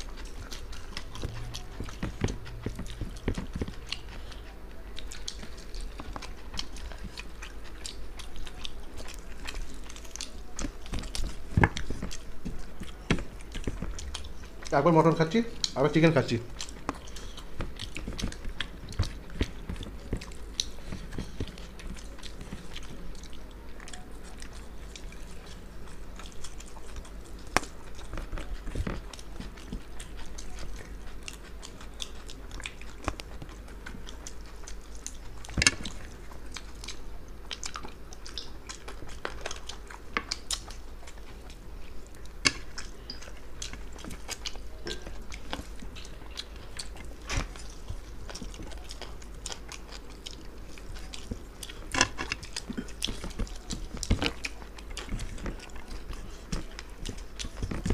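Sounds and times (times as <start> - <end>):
faint low hum: 0.0 - 57.9
people chewing food: 0.0 - 57.9.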